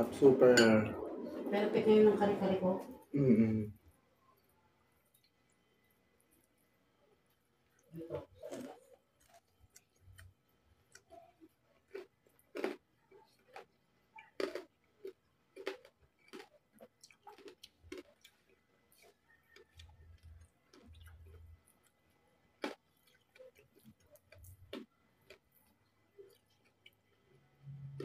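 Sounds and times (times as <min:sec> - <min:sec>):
chewing crispy food: 0:03.9 - 0:28.0
food crunching: 0:05.0 - 0:28.0.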